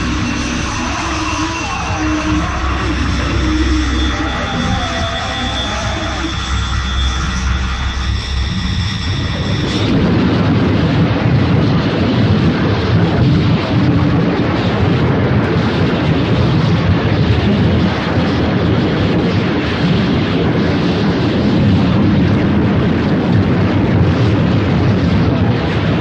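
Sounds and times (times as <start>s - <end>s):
dense rumbling noise: 0.0s - 26.0s.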